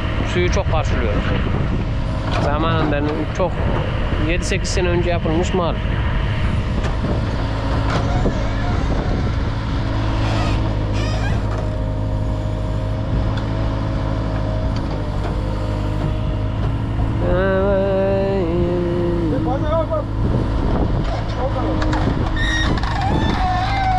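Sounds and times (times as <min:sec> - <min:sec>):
diesel engine drone: 0:00.0 - 0:23.9.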